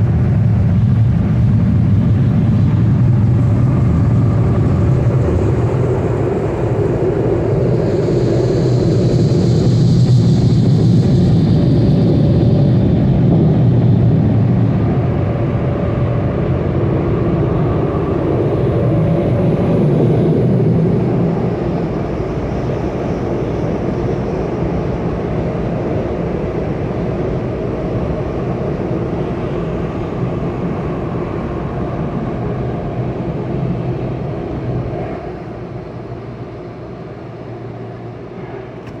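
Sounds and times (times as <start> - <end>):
rushing droning machine noise: 0.0 - 39.0.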